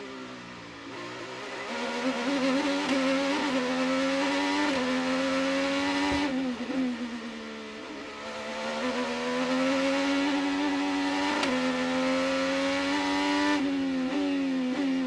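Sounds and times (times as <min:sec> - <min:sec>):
race car engine accelerating: 0:00.9 - 0:07.4, 0:08.0 - 0:15.0.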